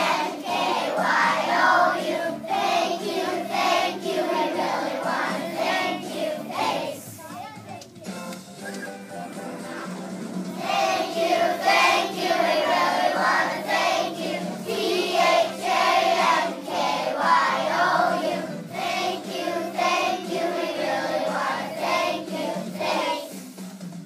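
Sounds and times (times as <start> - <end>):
children singing together: 0.0 - 7.2, 10.6 - 23.4.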